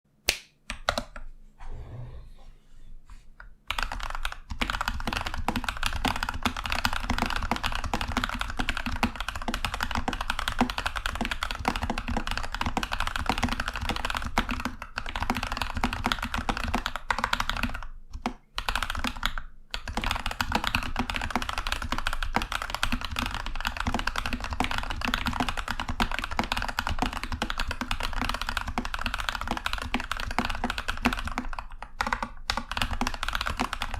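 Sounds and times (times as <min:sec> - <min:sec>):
fast typing on mechanical keyboard: 0:03.7 - 0:33.9.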